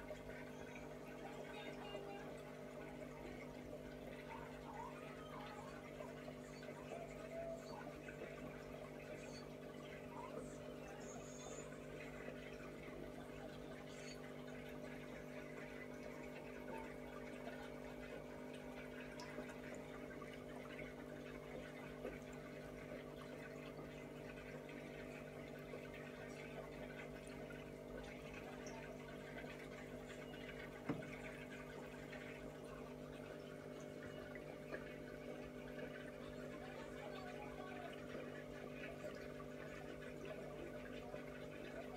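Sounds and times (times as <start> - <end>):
aquarium pump humming: 0.0 - 41.9
water trickling: 0.0 - 41.9.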